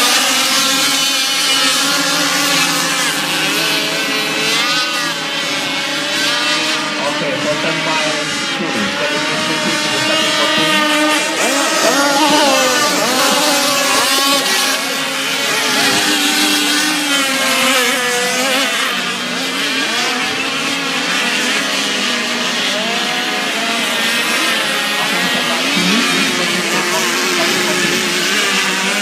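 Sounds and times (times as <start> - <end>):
rc boat engines revving: 0.0 - 29.0.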